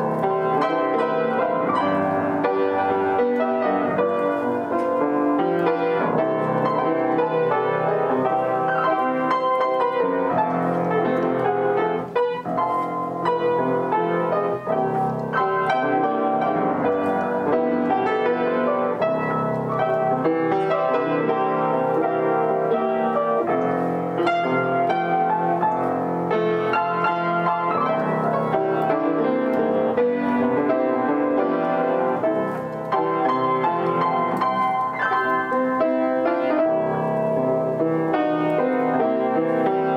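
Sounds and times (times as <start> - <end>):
upright piano playing chords: 0.0 - 39.9.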